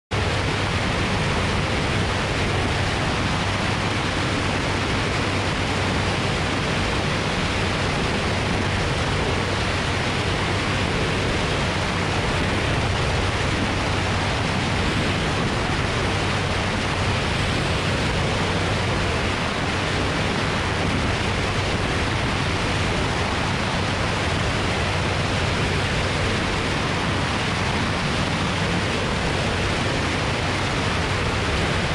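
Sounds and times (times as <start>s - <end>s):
aircraft engine and propeller drone: 0.1s - 31.9s
wind rushing over camera: 0.1s - 31.9s.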